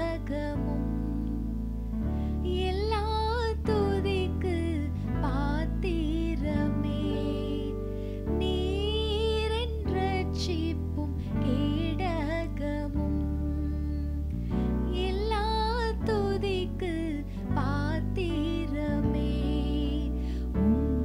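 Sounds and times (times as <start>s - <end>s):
woman singing with vibrato: 0.0s - 1.6s, 2.4s - 14.3s, 14.9s - 21.0s.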